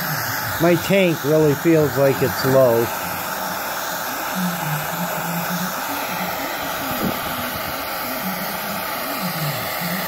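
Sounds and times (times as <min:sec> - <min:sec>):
gas torch hissing: 0:00.0 - 0:10.0
wavering low hum: 0:01.9 - 0:10.0.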